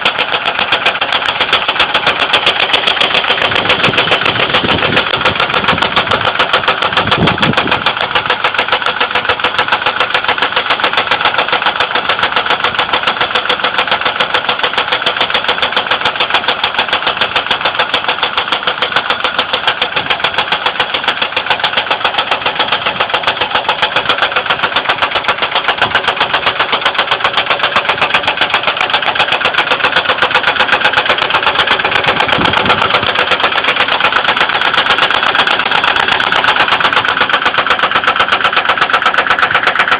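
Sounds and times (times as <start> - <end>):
engine idling with knocking: 0.0 - 39.9.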